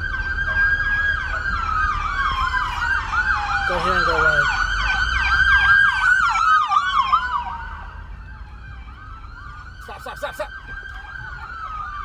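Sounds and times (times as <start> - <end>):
faint siren yelping: 0.0 - 12.0
low rumble of road noise: 0.0 - 12.0
siren wailing: 0.0 - 12.0.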